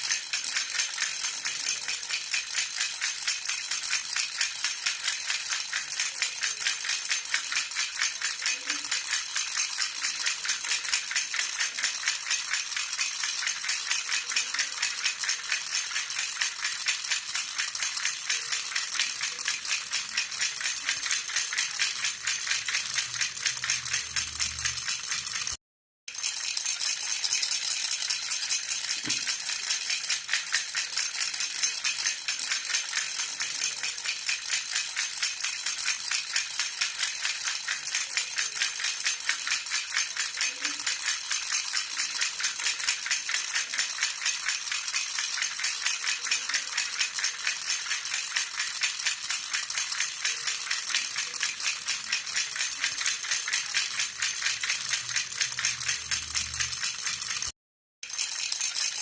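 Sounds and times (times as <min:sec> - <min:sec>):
metal baby rattle jingling: 0:00.0 - 0:59.0.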